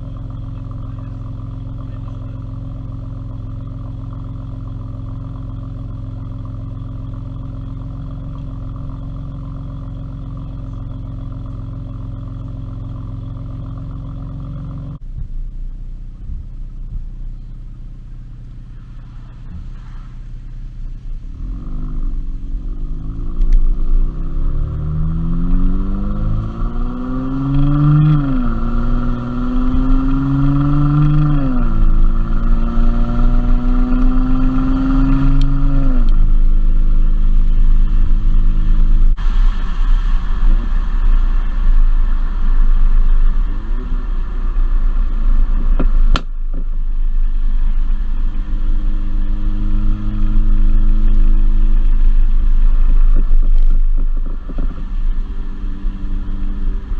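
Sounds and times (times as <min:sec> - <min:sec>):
car engine accelerating: 0:00.0 - 0:56.9.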